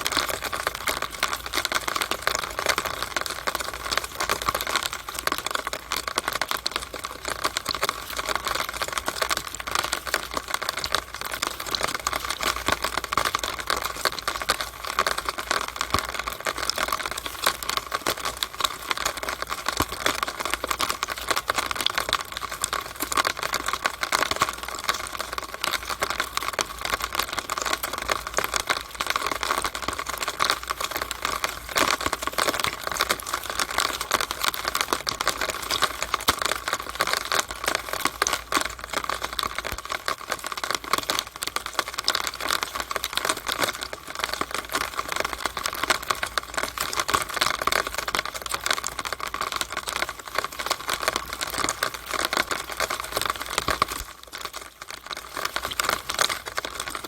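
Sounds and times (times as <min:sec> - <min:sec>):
rain running down a downspout: 0:00.0 - 0:57.0.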